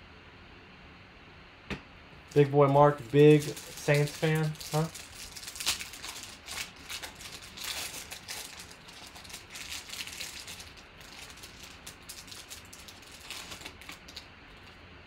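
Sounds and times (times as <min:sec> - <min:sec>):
foil wrapper crinkling and tearing: 0:02.3 - 0:14.8.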